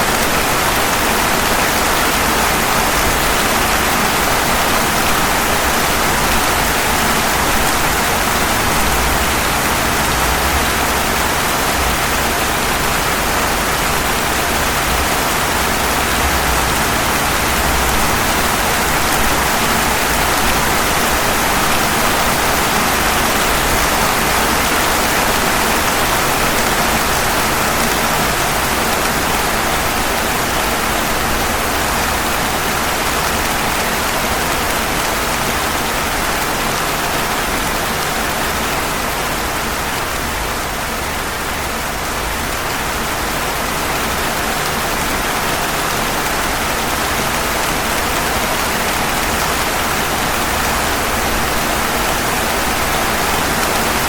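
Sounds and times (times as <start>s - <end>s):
rain falling on pavement: 0.0s - 54.0s.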